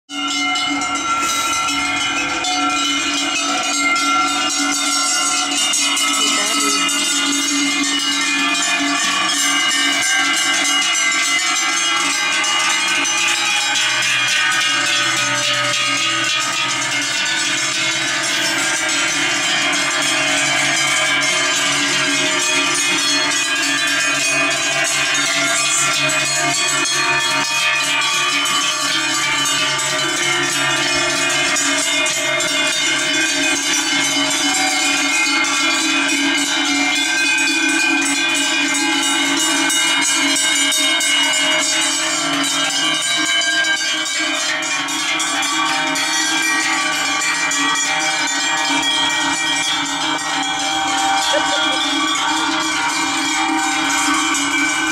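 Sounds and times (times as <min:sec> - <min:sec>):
cowbells clanging: 0:00.1 - 0:54.9.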